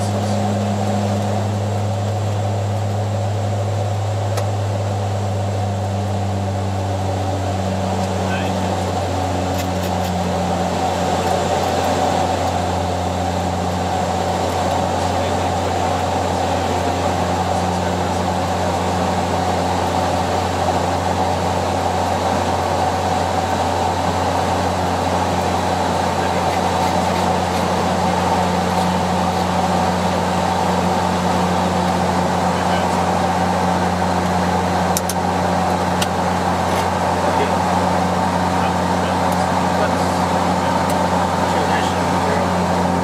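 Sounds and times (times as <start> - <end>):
turboprop engines droning: 0.0 - 43.0.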